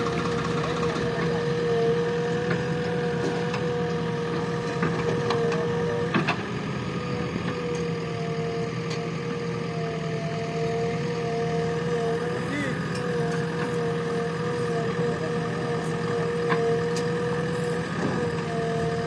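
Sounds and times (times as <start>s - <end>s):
constant whine: 0.0s - 19.0s
diesel engine running: 0.0s - 19.0s.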